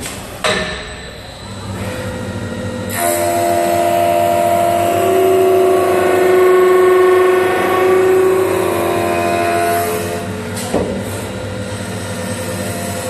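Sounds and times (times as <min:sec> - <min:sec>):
wood lathe cutting whine: 0:01.8 - 0:10.6, 0:11.2 - 0:13.0.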